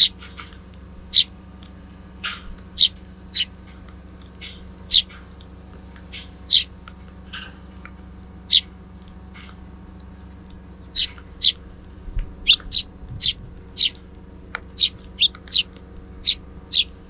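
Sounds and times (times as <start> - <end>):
sparrows chirping: 0.0 - 17.0
steady low hum: 0.0 - 17.0.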